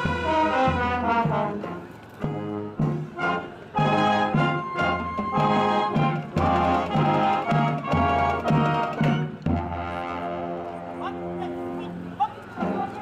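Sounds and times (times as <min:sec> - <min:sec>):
marching band brass playing: 0:00.0 - 0:13.0.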